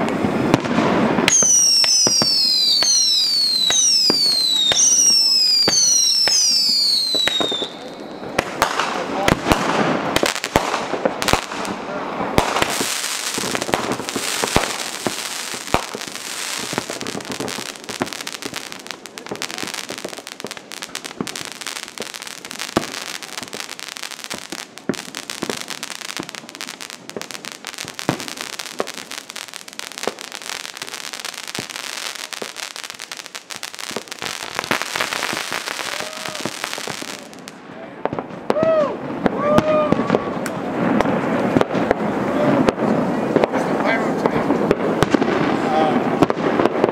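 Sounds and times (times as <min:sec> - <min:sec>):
fireworks crackling: 0:00.0 - 0:46.9
loud fireworks bangs: 0:00.0 - 0:46.9.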